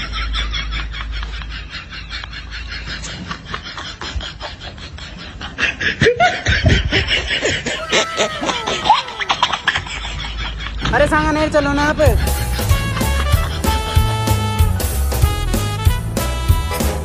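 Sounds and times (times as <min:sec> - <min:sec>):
person laughing: 0:00.0 - 0:15.0.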